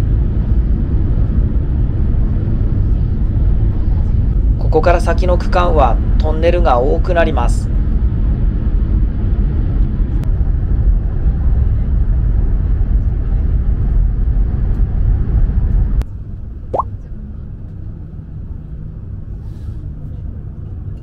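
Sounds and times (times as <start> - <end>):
train rumble inside carriage: 0.0 - 16.5, 17.2 - 21.0.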